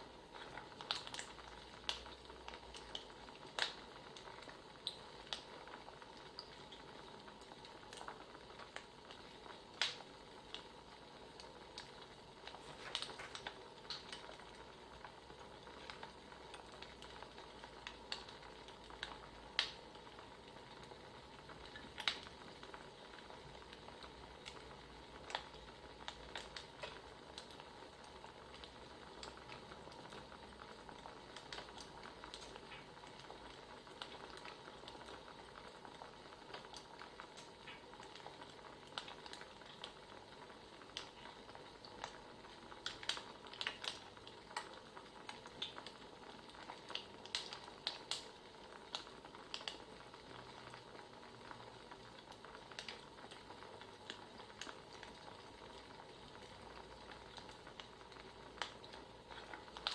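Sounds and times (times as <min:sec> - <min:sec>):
faint steady background noise: 0:00.0 - 0:59.9
firewood crackling: 0:00.3 - 0:50.8, 0:52.0 - 0:59.9.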